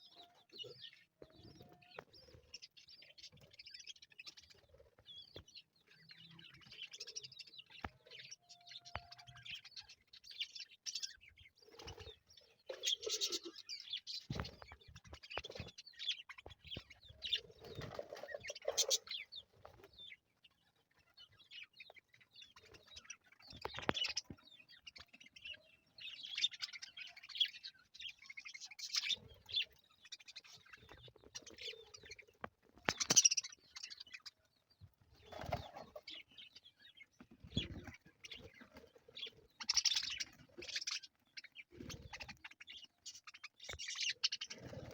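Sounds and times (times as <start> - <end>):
budgerigars chirping and chattering: 0.0 - 44.9.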